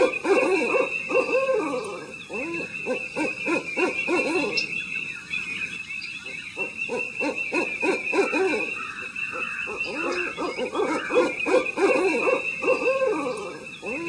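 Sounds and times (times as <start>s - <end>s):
owls hooting: 0.0s - 14.0s.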